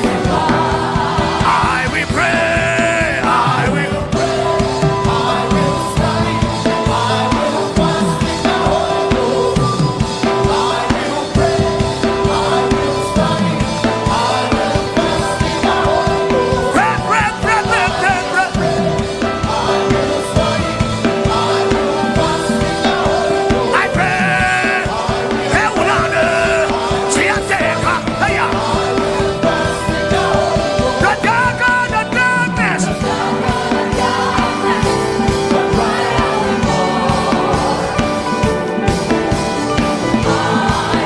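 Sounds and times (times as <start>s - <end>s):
person singing: 0.0s - 19.0s, 21.7s - 38.8s
drum kit: 0.0s - 41.0s
gospel worship music: 0.0s - 41.0s.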